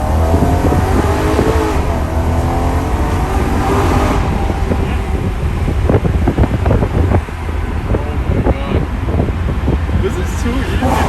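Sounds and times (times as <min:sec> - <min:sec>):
car engine pulling under throttle: 0:00.0 - 0:11.0
road noise: 0:00.0 - 0:11.0.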